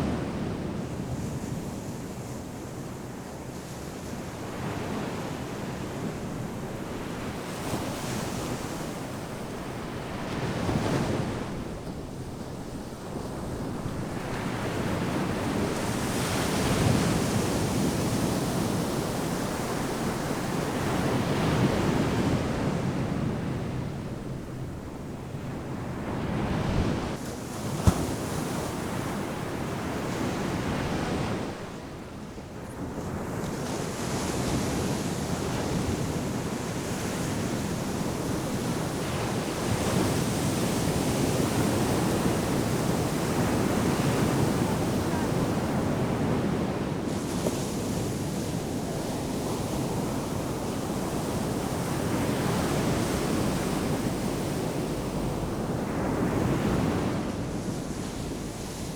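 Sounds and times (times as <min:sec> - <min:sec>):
ocean surf on sandy beach: 0:00.0 - 0:58.9.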